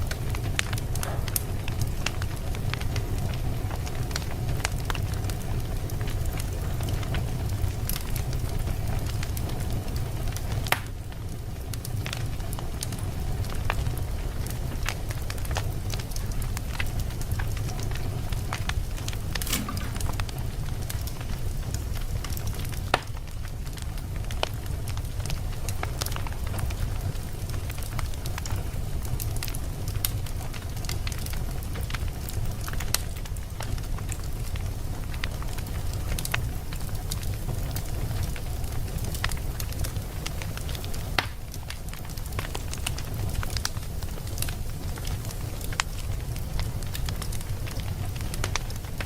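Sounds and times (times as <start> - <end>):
fire crackling and popping: 0.0 - 49.0
fireplace flames rumbling: 0.0 - 49.0.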